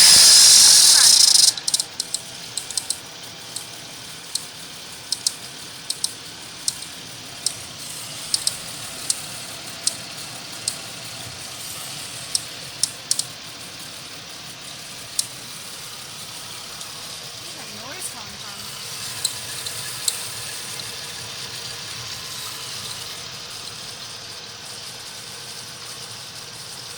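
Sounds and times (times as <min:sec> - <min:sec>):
car engine running quietly: 0:00.0 - 0:26.9
sharp irregular ticking: 0:00.0 - 0:26.9.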